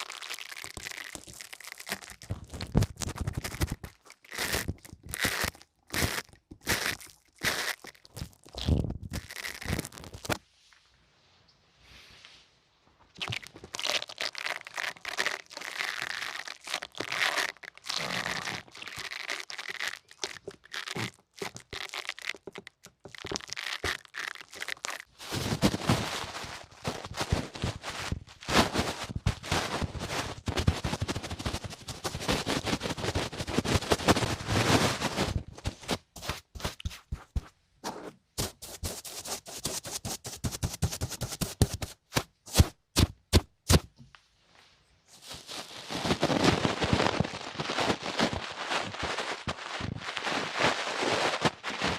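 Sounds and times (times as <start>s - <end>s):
crackling and scratching at microphone: 0.0s - 10.9s, 13.0s - 44.1s, 45.1s - 51.9s.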